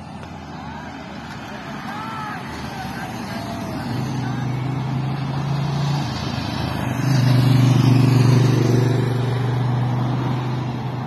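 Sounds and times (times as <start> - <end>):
vehicle engines droning: 0.0 - 11.0.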